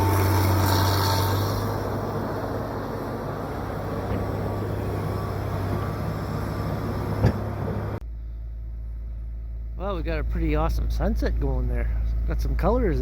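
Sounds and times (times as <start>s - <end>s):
diesel engine running: 0.0s - 13.0s
low steady hum: 0.0s - 13.0s.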